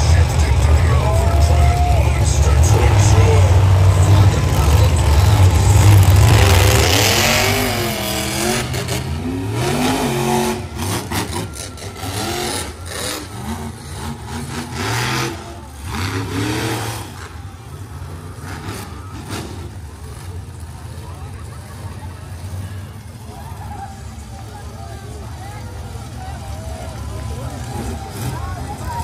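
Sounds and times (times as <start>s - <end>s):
monster truck engines revving: 0.0s - 29.0s.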